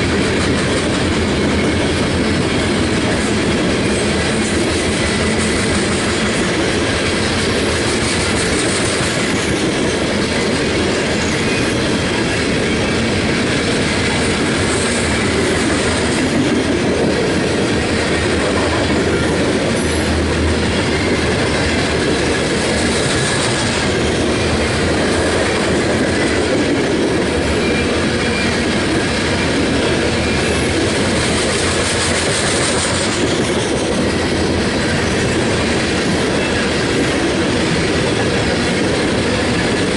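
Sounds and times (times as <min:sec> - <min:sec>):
freight train cars rolling: 0:00.0 - 0:39.9
wheels clicking over rail joints: 0:00.0 - 0:39.9.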